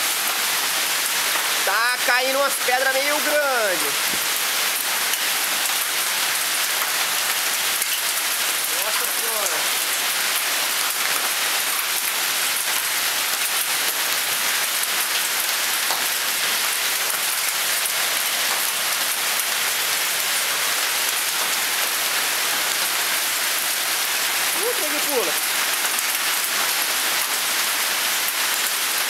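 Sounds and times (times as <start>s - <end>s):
hail falling: 0.0s - 29.0s.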